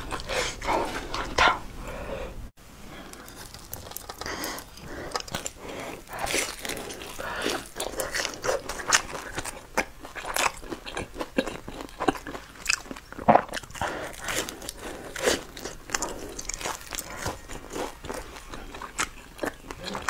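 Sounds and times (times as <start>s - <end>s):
chewing and crunching: 0.0s - 1.4s, 3.0s - 20.0s.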